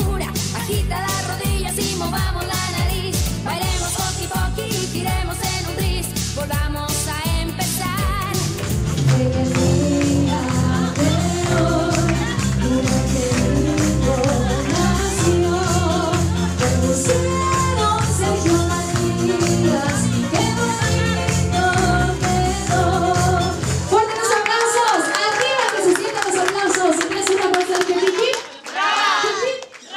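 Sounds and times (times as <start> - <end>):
upbeat music with singing: 0.0 - 28.3.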